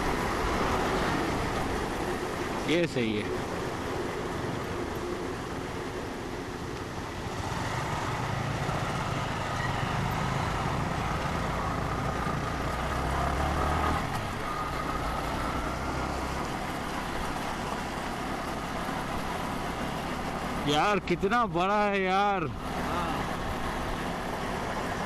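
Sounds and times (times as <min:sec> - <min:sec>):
motorcycle engine drone: 0:00.0 - 0:25.0
road and wind noise: 0:00.0 - 0:25.0.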